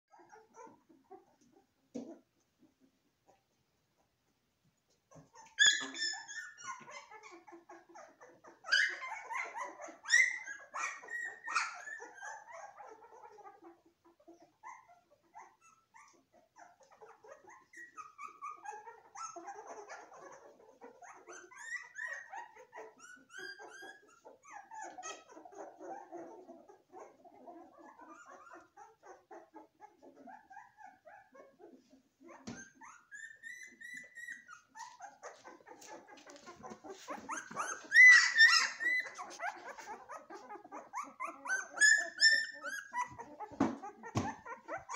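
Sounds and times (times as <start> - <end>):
puppies whimpering and squealing: 0.1 - 4.1, 5.1 - 44.9.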